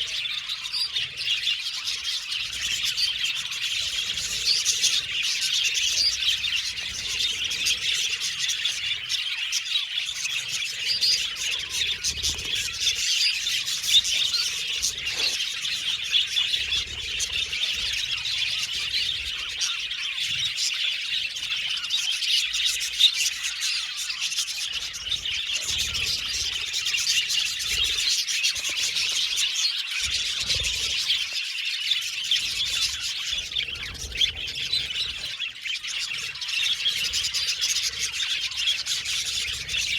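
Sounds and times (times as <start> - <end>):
budgies chirping and warbling: 0.0 - 39.9.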